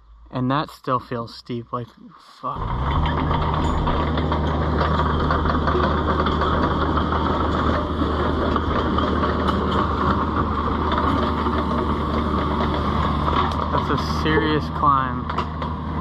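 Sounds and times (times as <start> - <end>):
diesel engine running: 2.4 - 16.0.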